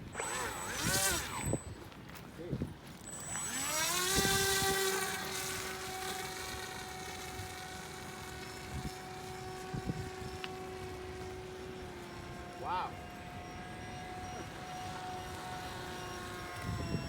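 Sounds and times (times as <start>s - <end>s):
electric motor propeller whine: 0.0s - 17.0s.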